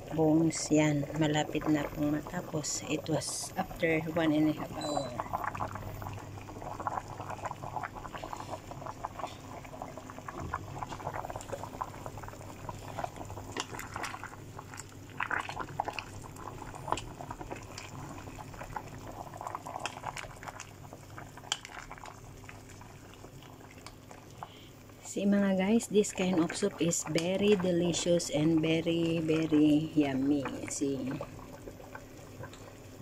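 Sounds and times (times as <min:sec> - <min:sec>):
low steady hum: 0:00.0 - 0:33.0
soup bubbling at a boil: 0:00.0 - 0:33.0.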